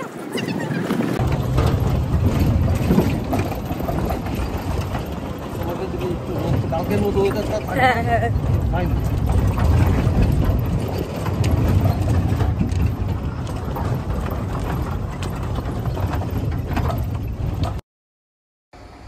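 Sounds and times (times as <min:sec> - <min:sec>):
vehicle engine and road noise: 0:00.0 - 0:17.8, 0:18.8 - 0:19.0
wind buffeting microphone: 0:00.0 - 0:17.8
rattles and knocks: 0:01.2 - 0:17.8.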